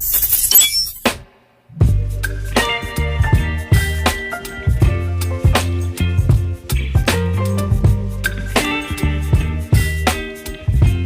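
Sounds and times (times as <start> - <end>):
pop music with drums and bass: 1.8 - 11.0.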